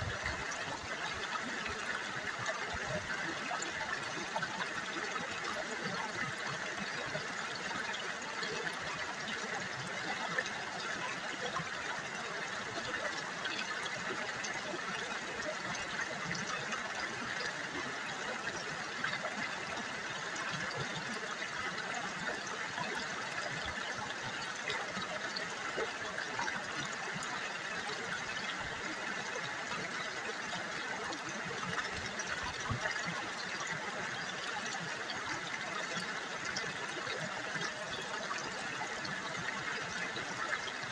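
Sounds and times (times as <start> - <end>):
river water babbling over stones: 0.0 - 40.9.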